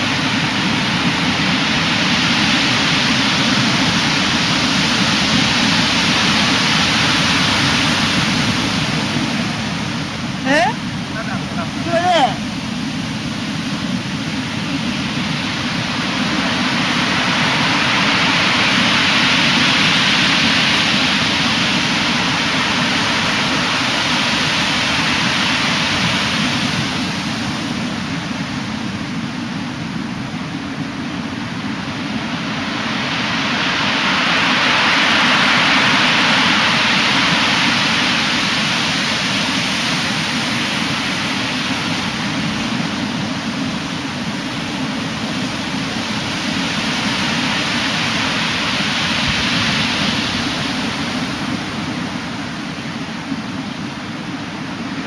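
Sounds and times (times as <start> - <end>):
big waves breaking: 0.0 - 55.0.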